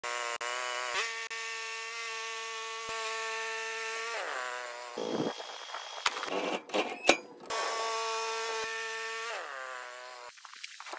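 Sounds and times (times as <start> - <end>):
bandsaw sawing wood: 0.0 - 6.7, 7.4 - 10.3.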